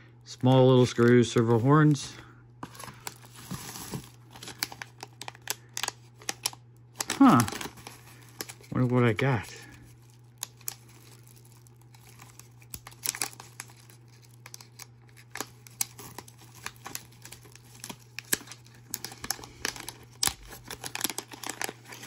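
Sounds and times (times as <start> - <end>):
plastic packet crinkling: 0.4 - 22.0.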